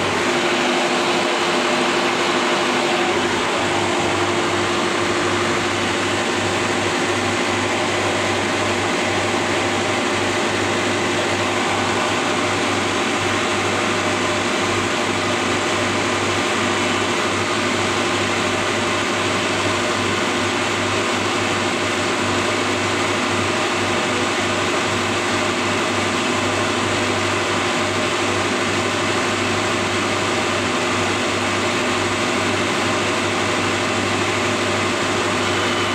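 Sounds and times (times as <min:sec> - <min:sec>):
air conditioning machine hum: 0:00.0 - 0:35.9.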